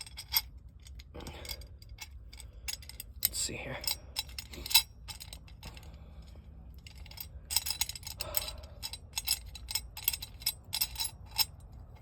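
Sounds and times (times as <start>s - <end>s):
small metal parts clinking: 0.0s - 12.0s.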